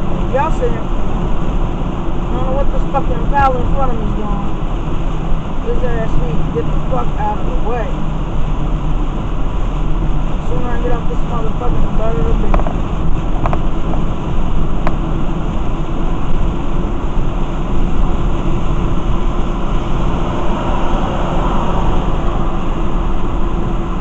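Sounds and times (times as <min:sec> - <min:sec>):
tyres on wet road: 0:00.0 - 0:24.0
rain on windshield: 0:00.1 - 0:24.0.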